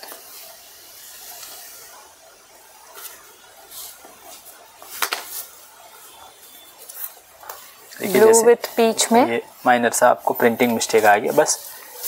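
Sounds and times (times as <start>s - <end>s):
fabric rustling and swishing: 0.0s - 12.0s.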